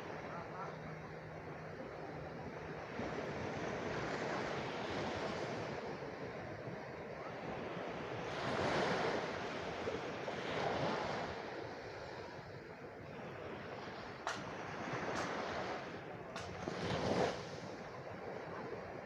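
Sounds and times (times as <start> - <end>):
sea waves washing onto shore: 1.2 - 19.0.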